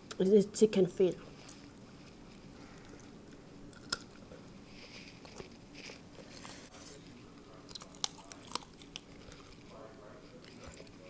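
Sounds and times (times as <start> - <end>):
wet chewing sounds: 1.3 - 11.0.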